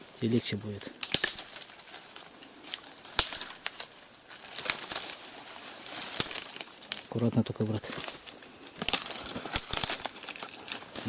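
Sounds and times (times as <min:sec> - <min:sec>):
leaves rustling: 0:00.0 - 0:11.0
steady high hiss: 0:00.0 - 0:11.0
twigs and branches snapping: 0:00.7 - 0:11.0.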